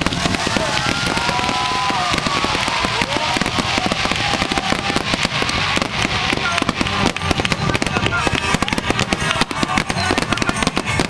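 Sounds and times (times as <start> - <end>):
fireworks crackling: 0.0 - 11.0
whistling fireworks: 0.0 - 11.0.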